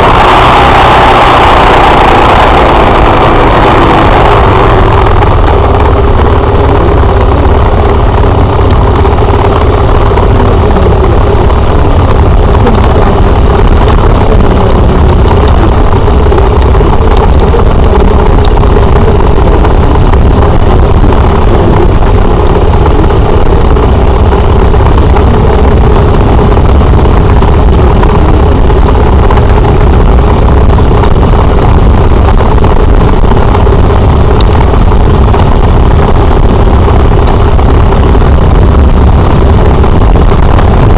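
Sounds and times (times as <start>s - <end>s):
motorcycle engine running: 0.0s - 40.9s
wind rumble on microphone: 0.0s - 40.9s.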